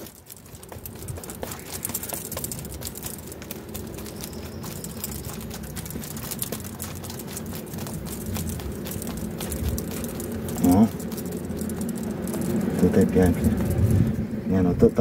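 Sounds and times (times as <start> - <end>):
hand tool scraping soil: 0.0 - 14.2.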